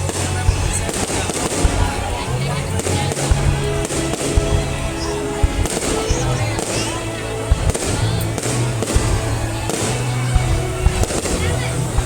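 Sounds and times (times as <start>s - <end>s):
fireworks banging: 0.0s - 12.0s
music: 0.0s - 12.0s.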